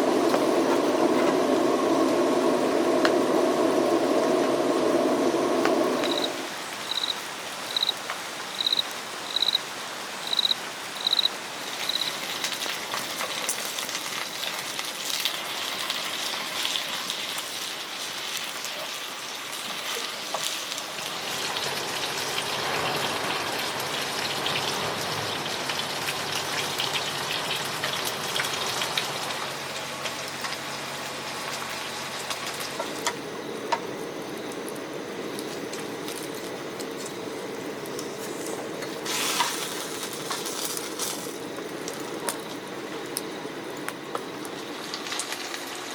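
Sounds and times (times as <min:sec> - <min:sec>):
rain pattering on a tent: 0:00.0 - 0:33.7, 0:34.3 - 0:45.9.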